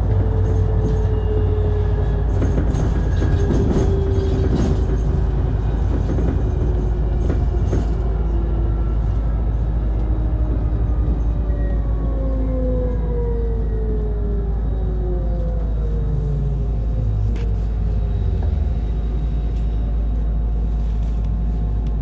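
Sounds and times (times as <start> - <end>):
bus engine rumble: 0.0 - 22.0.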